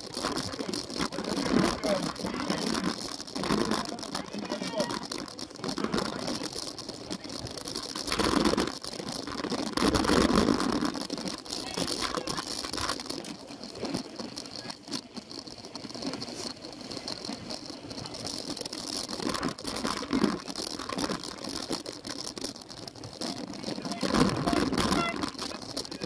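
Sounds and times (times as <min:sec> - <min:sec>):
bike tyre and drivetrain noise: 0:00.0 - 0:26.0
camera clatter and rattling: 0:00.0 - 0:26.0.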